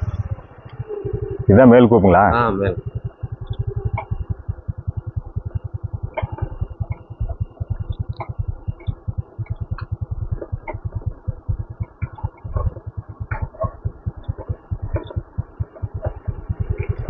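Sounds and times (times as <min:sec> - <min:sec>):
faint ticks: 0:00.0 - 0:01.8, 0:02.6 - 0:17.0
motorcycle engine idling: 0:00.0 - 0:17.0.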